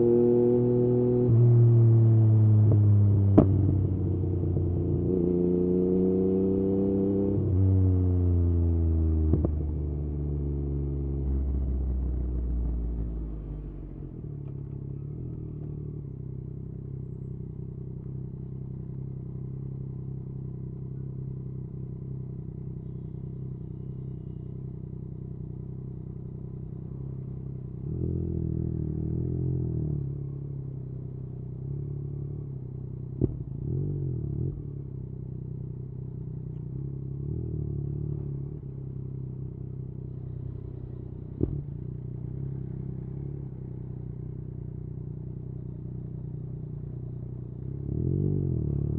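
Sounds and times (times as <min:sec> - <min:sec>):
motorcycle engine revving and idling: 0:00.0 - 0:48.9.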